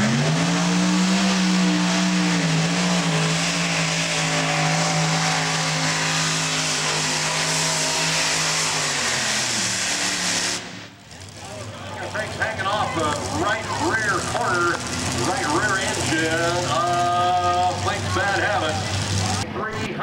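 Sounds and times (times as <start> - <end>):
tires spinning in dirt: 0.0 - 19.4.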